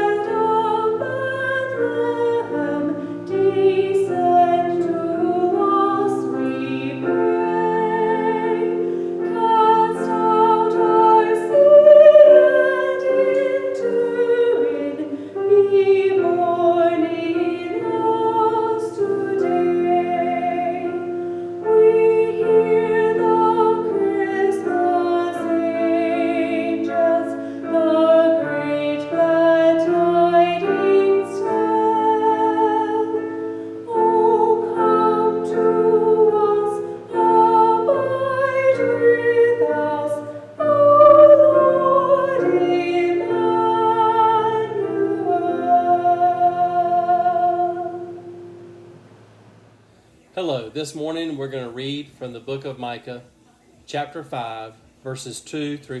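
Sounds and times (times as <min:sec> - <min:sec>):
woman singing a hymn: 0:00.0 - 0:48.7
piano: 0:00.0 - 0:50.8.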